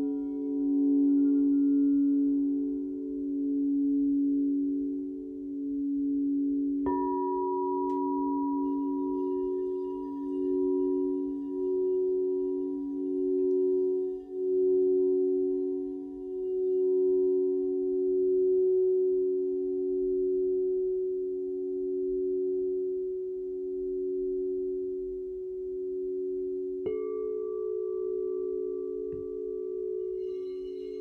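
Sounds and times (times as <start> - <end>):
bowl struck: 0.0 - 31.0
crystal singing bowls ringing: 0.0 - 31.0.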